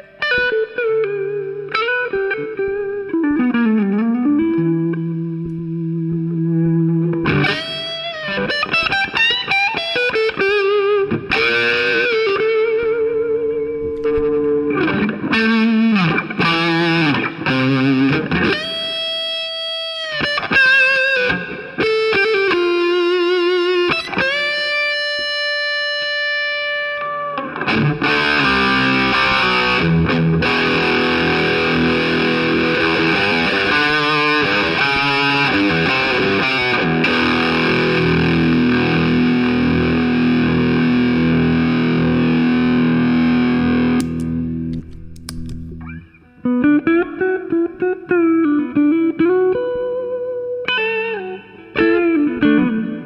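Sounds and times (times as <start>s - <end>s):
overdriven electric guitar: 0.0s - 53.0s.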